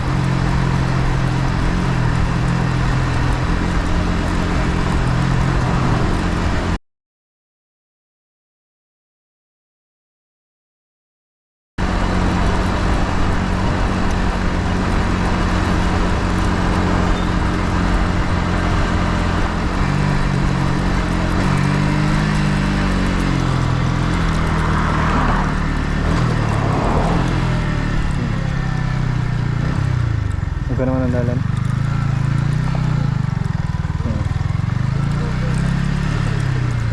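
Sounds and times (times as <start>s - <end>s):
motorcycle engine running: 0.0s - 6.8s, 11.8s - 36.9s
wind and road noise: 0.0s - 6.8s, 11.8s - 36.9s.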